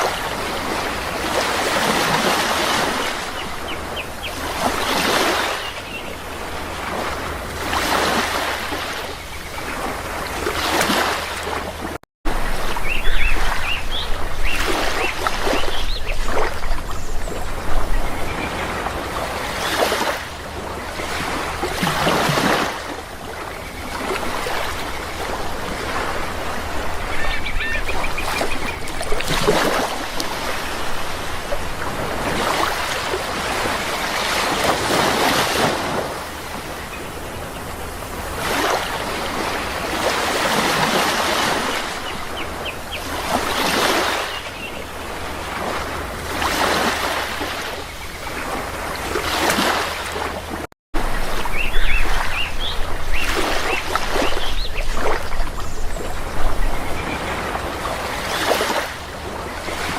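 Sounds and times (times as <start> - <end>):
birds calling: 0.0 - 49.8, 51.2 - 59.9
sea waves washing in: 0.0 - 59.9.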